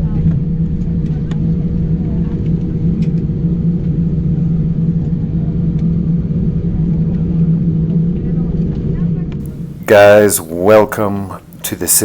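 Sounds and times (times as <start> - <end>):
aircraft cabin rumble: 0.0 - 10.6
constant hum: 0.0 - 12.0.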